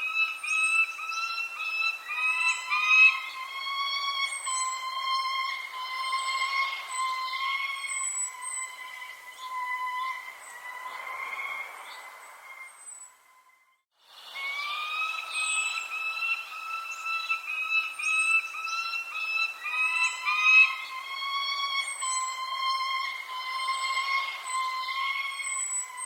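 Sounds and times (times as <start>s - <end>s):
birds chirping: 0.0s - 26.0s
wavering whistle-like tone: 0.0s - 26.0s.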